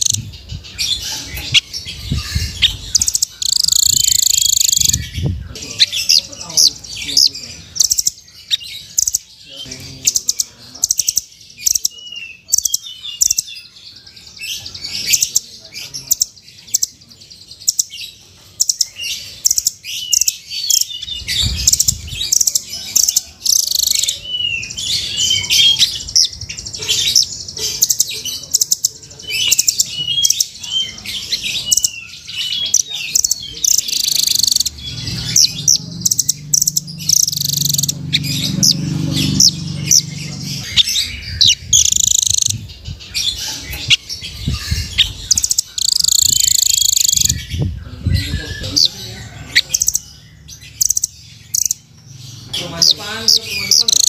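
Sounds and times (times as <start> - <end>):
background noise: 0.0 - 54.0
bird chirping rapidly: 0.0 - 54.0.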